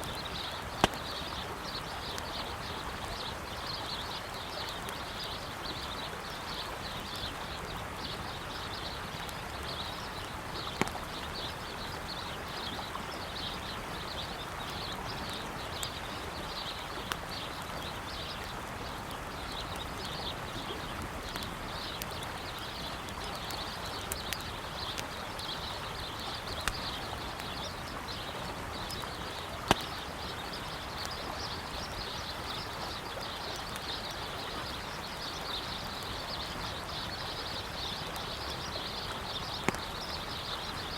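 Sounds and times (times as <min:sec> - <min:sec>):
campfire crackling and popping: 0:00.0 - 0:40.9
river flowing: 0:00.0 - 0:40.9.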